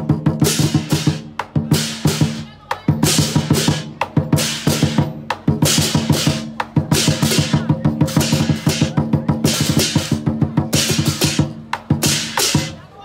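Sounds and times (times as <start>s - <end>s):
drum beaten with sticks: 0.0s - 13.0s.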